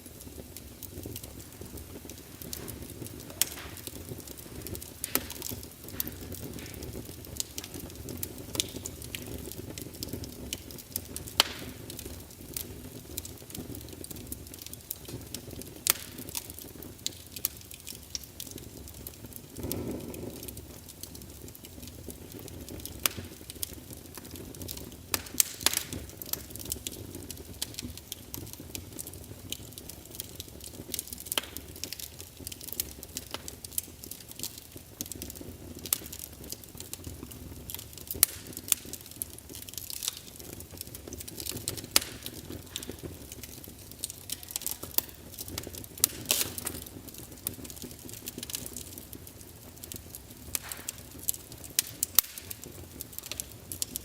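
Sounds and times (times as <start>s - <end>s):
rush of flame: 0.0s - 49.1s
wood fire crackling and popping: 0.0s - 54.0s.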